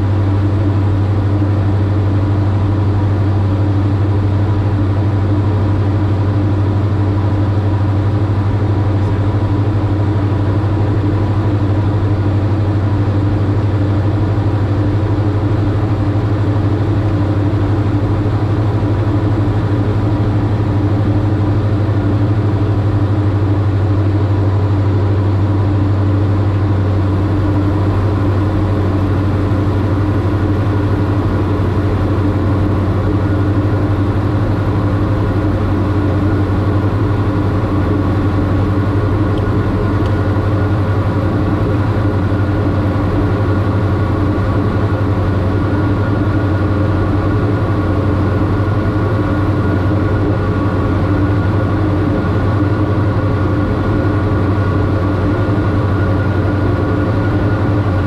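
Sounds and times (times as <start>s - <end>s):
aircraft engines droning in cabin: 0.0s - 58.0s.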